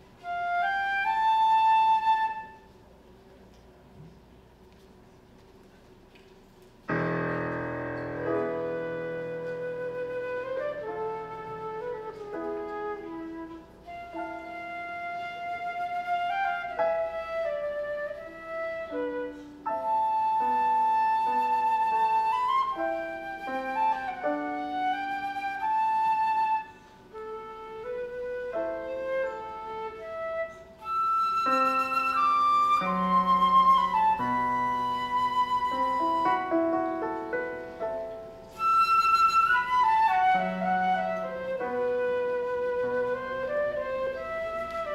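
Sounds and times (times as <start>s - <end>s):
flute playing classical solo: 0.0s - 2.9s, 6.9s - 44.9s.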